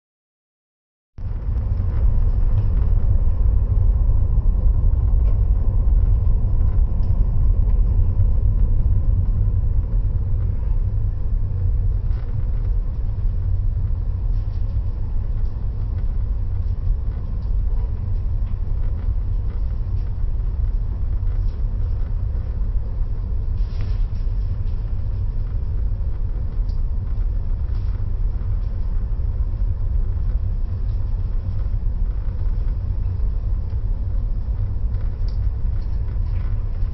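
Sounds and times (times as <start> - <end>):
loud low rumble: 1.2 - 36.9.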